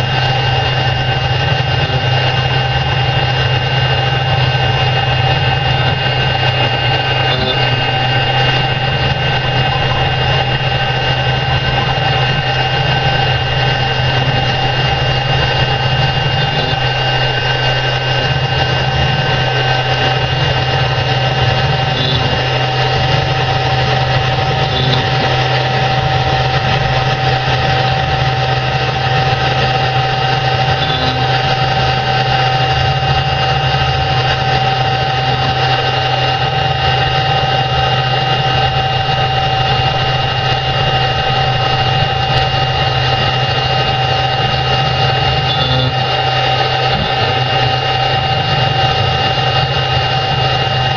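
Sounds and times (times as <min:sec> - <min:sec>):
stone engraving machine whine: 0:00.0 - 0:50.9.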